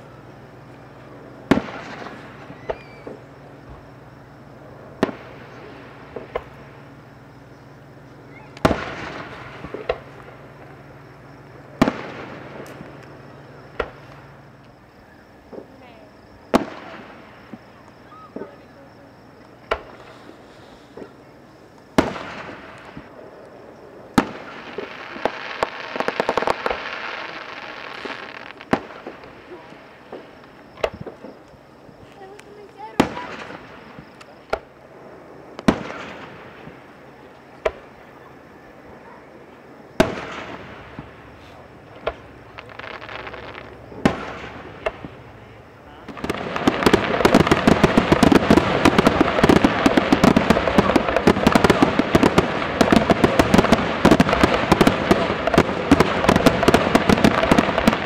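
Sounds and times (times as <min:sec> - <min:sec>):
fireworks bangs with rumbling tail: 0:00.0 - 0:58.0
small firework pops: 0:01.4 - 0:03.8, 0:05.0 - 0:06.7, 0:08.3 - 0:14.8, 0:15.5 - 0:18.7, 0:19.4 - 0:34.8, 0:35.5 - 0:38.1, 0:39.9 - 0:45.4, 0:46.0 - 0:58.0.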